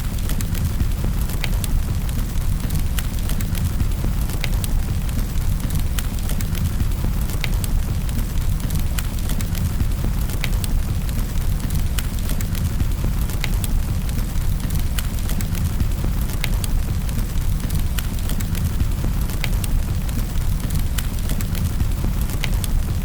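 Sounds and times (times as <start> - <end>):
falling rain: 0.0 - 23.0
wood fire crackling: 0.0 - 23.0.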